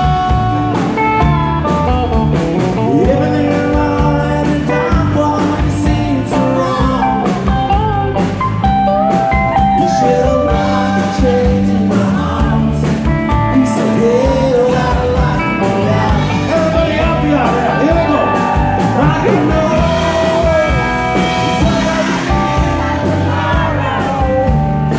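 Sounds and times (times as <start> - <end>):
live rock band playing: 0.0 - 24.9
man singing: 1.8 - 8.3, 9.5 - 24.9.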